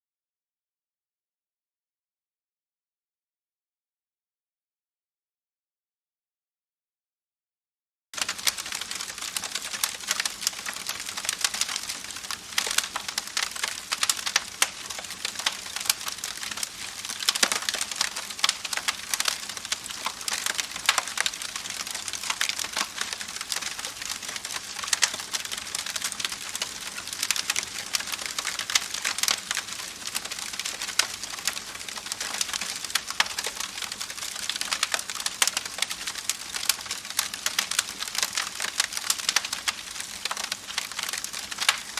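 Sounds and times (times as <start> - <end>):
campfire crackling: 8.2 - 41.9.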